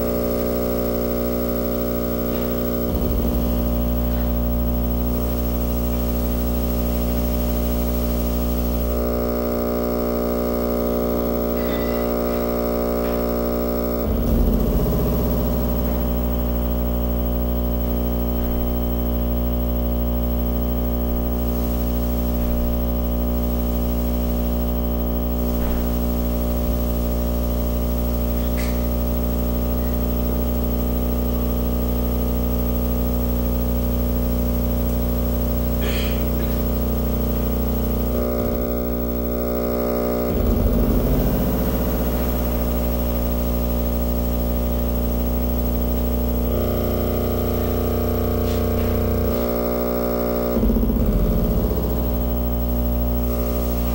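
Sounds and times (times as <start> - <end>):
electronic noise drone: 0.0 - 53.9
stuttering low throb: 0.0 - 53.9.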